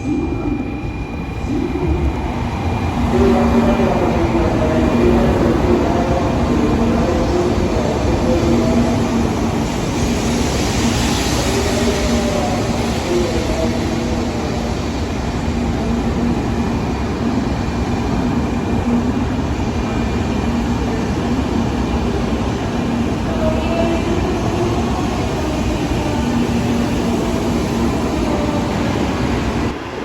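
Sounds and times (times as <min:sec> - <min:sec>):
train rumbling at platform: 0:00.0 - 0:30.0.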